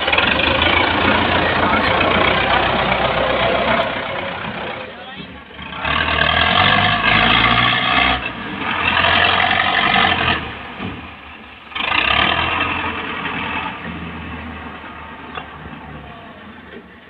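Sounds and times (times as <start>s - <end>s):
tractor diesel engine revving: 0.0s - 17.0s.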